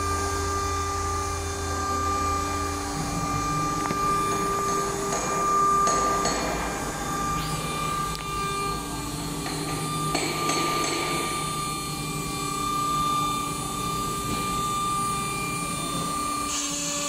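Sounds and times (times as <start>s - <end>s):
high spindle whine: 0.0s - 17.0s
low machine hum: 0.0s - 17.0s.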